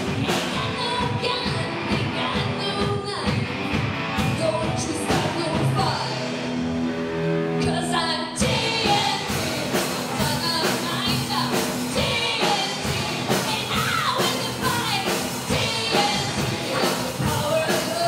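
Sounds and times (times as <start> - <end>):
drum kit beat: 0.0 - 6.8, 8.4 - 18.0
rock band playing live: 0.0 - 18.0
woman singing: 0.1 - 3.6, 4.2 - 6.2, 7.6 - 18.0.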